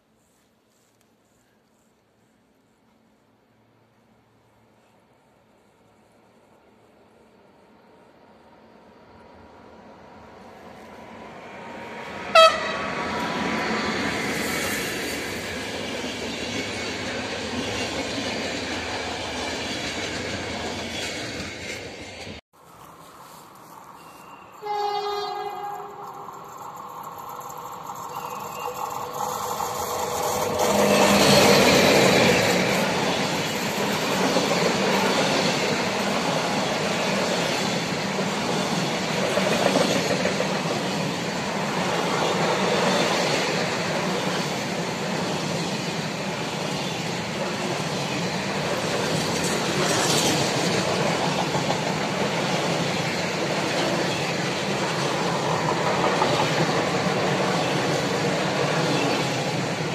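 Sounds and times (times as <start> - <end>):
electric locomotive passing: 3.0 - 59.9
train wagons running on rails: 10.6 - 59.9.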